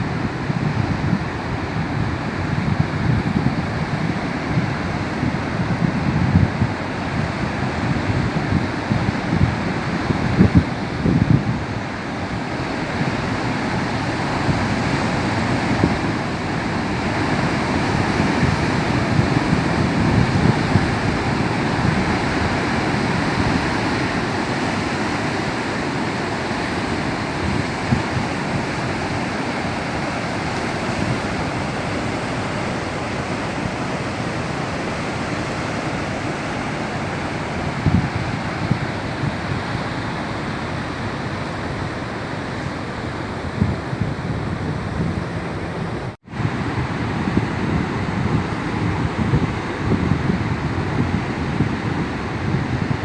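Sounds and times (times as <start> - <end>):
waves breaking against shore: 0.0 - 53.0.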